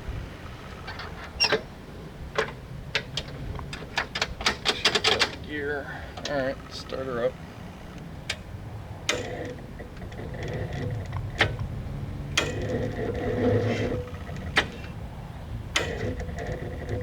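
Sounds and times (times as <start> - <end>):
electric starter whirring: 0.4 - 17.0.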